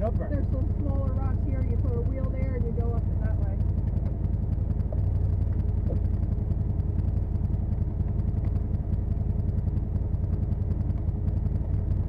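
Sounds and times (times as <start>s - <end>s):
utility vehicle engine idling: 0.0s - 12.0s.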